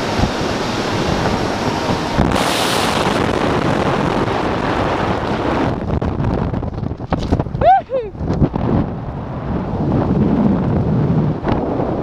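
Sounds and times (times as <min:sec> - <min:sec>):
wind rushing on microphone: 0:00.0 - 0:12.0.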